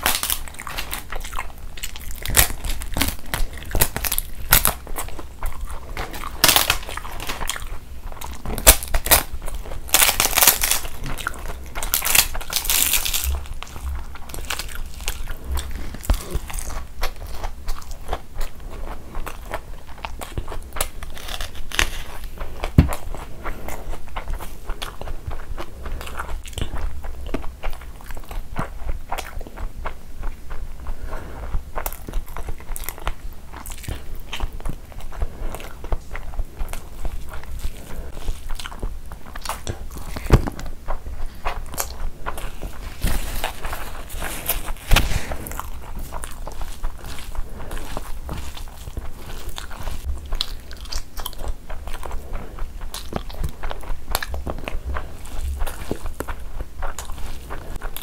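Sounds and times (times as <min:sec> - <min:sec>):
person chewing food: 0:00.0 - 0:58.0
hand mixing wet rice: 0:09.3 - 0:58.0.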